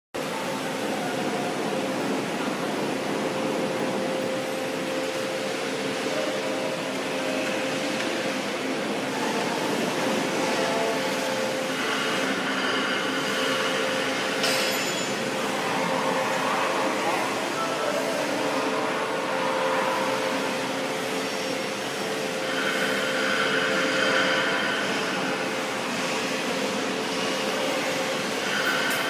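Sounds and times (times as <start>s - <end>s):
high hiss and whine: 0.2s - 29.0s
mixer machine droning: 0.2s - 29.0s.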